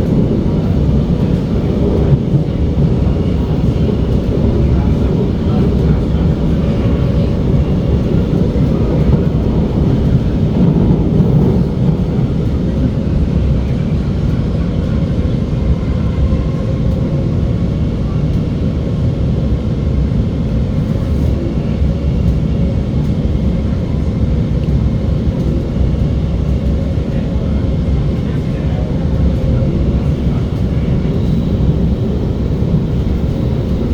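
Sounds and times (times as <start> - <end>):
train wheels rumbling on track: 0.0 - 33.9.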